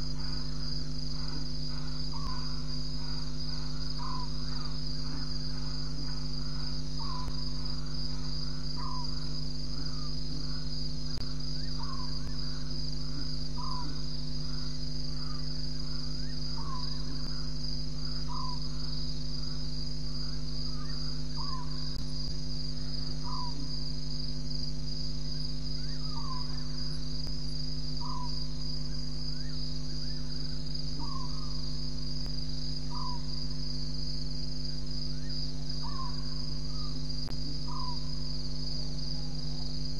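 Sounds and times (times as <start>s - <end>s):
crickets chirping: 0.0s - 39.9s
low hum: 0.0s - 39.9s.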